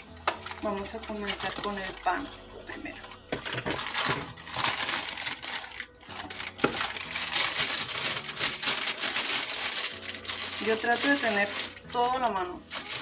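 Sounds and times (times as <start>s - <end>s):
packaging crinkling and rustling: 0.3s - 13.0s.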